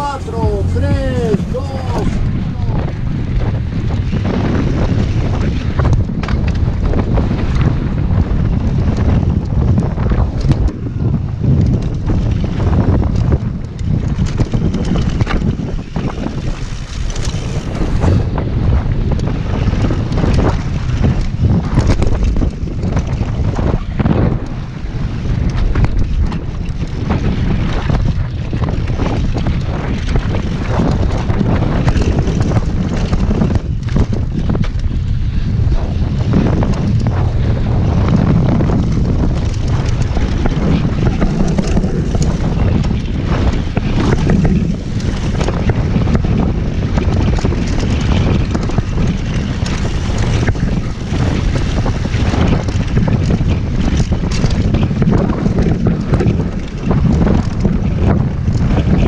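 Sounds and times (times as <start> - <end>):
wind buffeting microphone: 0.0 - 59.0
bike knocks and rattles: 3.4 - 18.4, 25.2 - 59.0.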